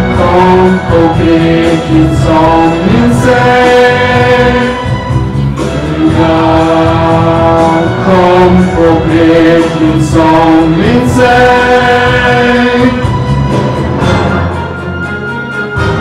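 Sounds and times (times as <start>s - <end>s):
group of voices singing: 0.0s - 14.5s.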